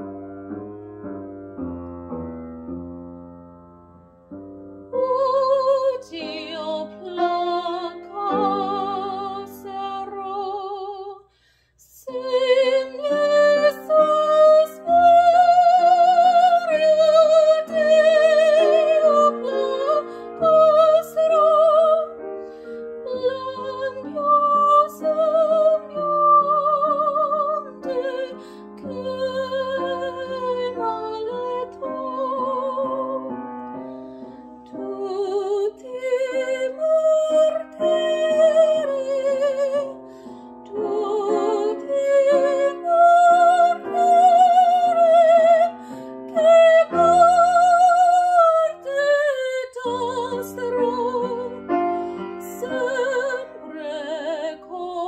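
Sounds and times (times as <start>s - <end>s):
grand piano: 0.0s - 55.0s
woman singing classical song: 4.7s - 55.0s.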